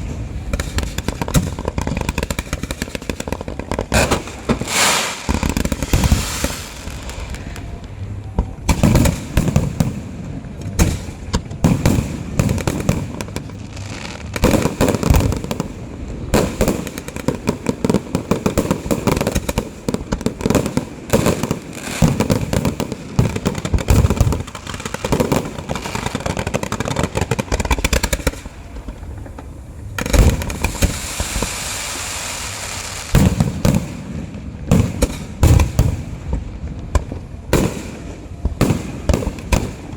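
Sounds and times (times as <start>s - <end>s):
firecracker crackling: 0.0s - 39.9s
loud firework bangs: 0.0s - 39.9s.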